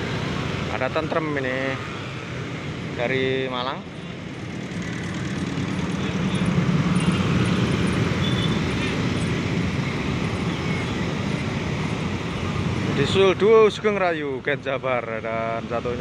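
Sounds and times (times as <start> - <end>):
motorcycle engines passing: 0.0 - 13.8
dense road traffic: 0.0 - 16.0.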